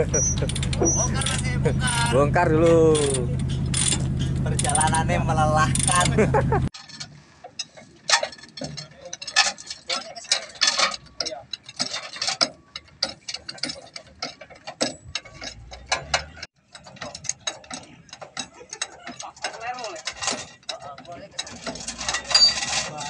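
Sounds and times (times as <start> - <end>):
metal tools clicking and clanking: 0.0 - 23.0.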